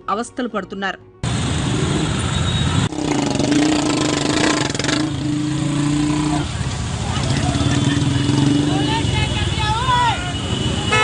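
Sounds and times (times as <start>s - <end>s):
motorcycle engine humming: 1.2s - 11.0s.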